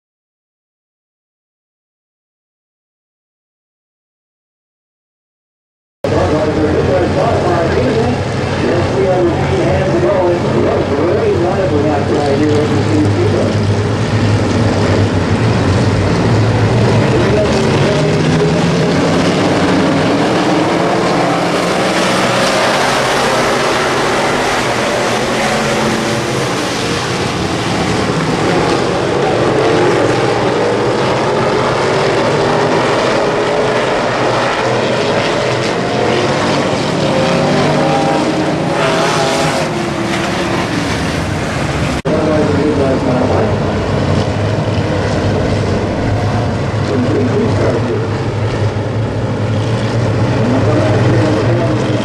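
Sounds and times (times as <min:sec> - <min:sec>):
race car engines: 0:06.0 - 0:52.0.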